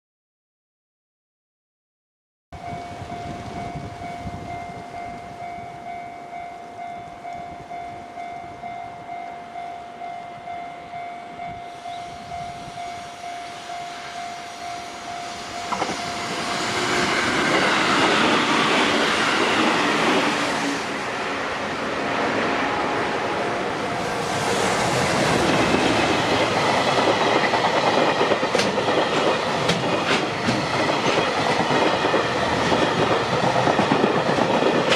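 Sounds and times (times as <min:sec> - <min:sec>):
level-crossing warning bell dinging: 0:02.6 - 0:34.9
train wheels running on rails: 0:02.6 - 0:34.9.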